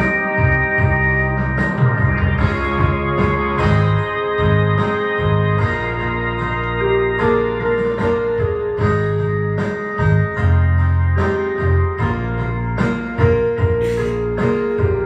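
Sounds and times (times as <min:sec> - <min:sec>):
electronic keyboard gospel music: 0:00.0 - 0:15.0.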